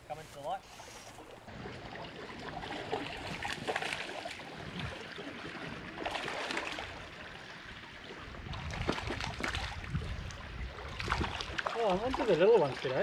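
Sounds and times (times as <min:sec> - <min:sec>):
stream water gurgling: 0:00.5 - 0:13.0
fish splashing: 0:01.2 - 0:07.8, 0:08.5 - 0:13.0.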